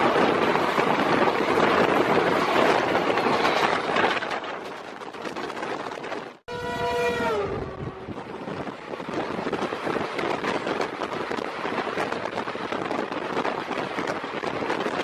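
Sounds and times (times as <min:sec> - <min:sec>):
wheels clattering and knocking: 0:00.0 - 0:06.4, 0:08.4 - 0:15.0
train wagons rushing past: 0:00.0 - 0:15.0
wind buffeting microphone: 0:00.0 - 0:15.0.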